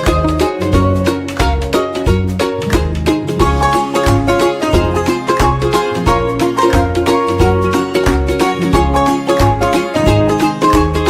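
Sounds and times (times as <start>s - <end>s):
steady bass beat: 0.0s - 11.0s
upbeat plucked-string tune: 0.0s - 11.0s.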